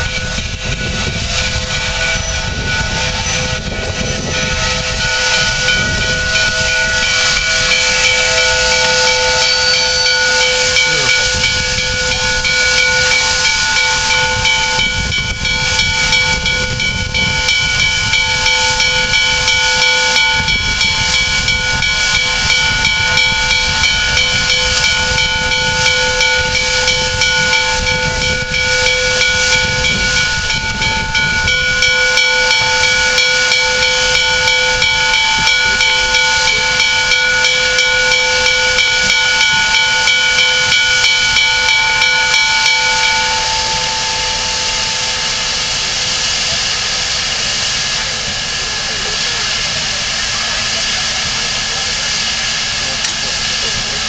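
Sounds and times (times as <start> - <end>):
held ringing tones: 0.0 - 46.0
steam locomotive hissing steam: 0.0 - 54.0.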